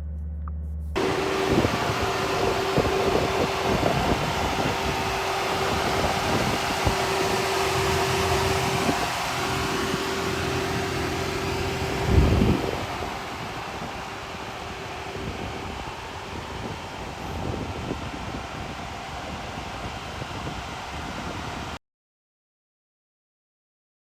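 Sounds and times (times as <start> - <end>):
car road and wind noise: 1.0 - 21.8.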